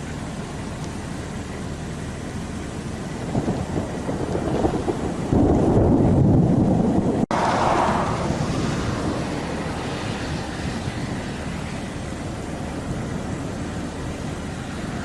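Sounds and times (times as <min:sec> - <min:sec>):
wind buffeting microphone: 0:02.7 - 0:15.0.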